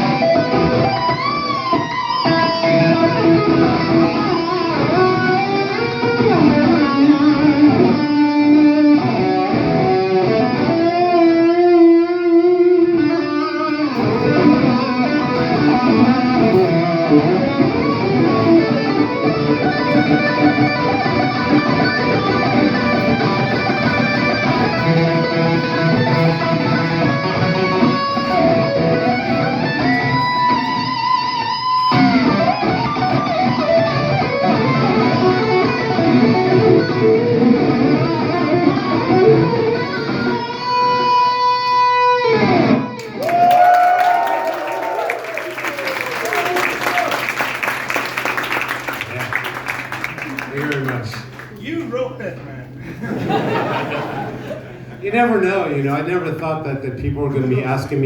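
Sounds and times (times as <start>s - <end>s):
electric guitar lead solo: 0.0s - 51.4s.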